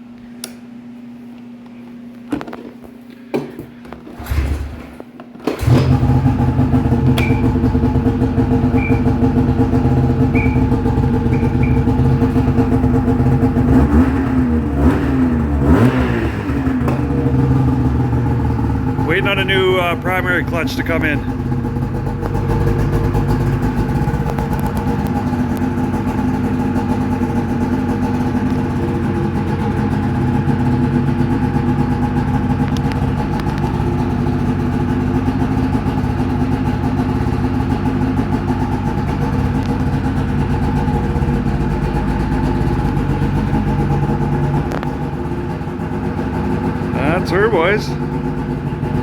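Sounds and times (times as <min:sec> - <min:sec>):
snowmobile engine idling: 0:05.6 - 0:49.0.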